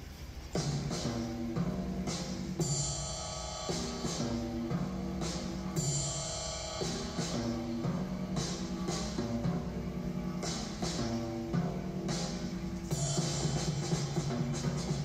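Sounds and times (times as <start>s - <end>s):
drum kit playing: 0.0s - 15.0s
backing music: 0.3s - 15.0s
cymbal crashes: 0.5s - 15.0s.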